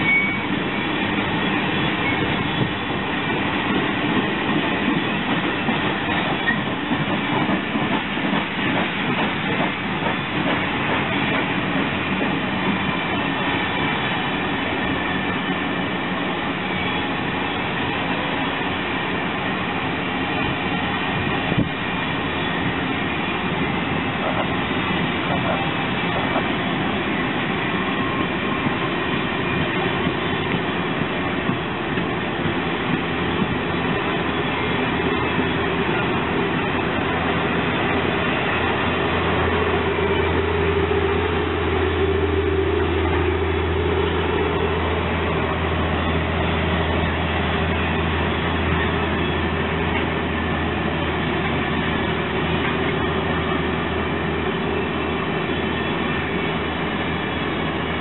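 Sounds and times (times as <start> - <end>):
train cars rolling on rails: 0.0 - 58.0.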